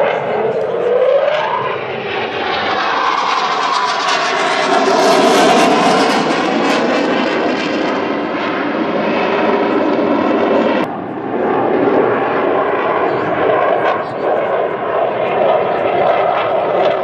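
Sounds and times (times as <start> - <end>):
fighter jet engines roaring: 0.0 - 17.0.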